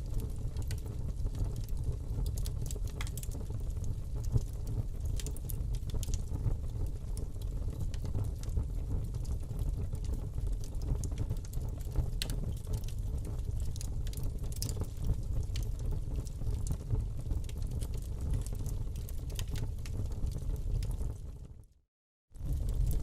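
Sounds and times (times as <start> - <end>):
fire rumbling: 0.0 - 21.6, 22.4 - 23.0
fire crackles and pops: 0.0 - 21.8, 22.4 - 23.0.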